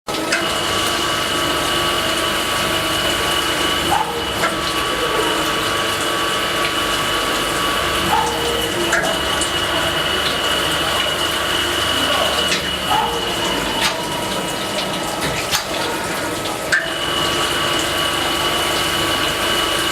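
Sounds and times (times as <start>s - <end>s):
rushing liquid: 0.1s - 19.9s
grinder high tone: 0.5s - 19.9s.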